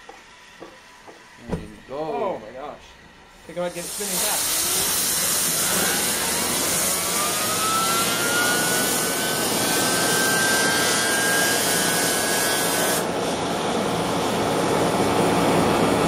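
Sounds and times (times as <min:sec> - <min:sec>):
turbine whine: 0:00.0 - 0:16.0.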